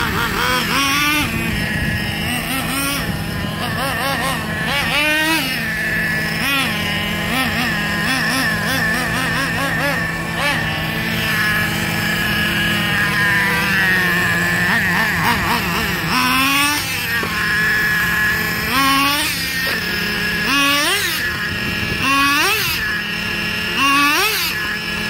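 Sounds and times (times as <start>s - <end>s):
small nitro engine revving: 0.0s - 25.0s.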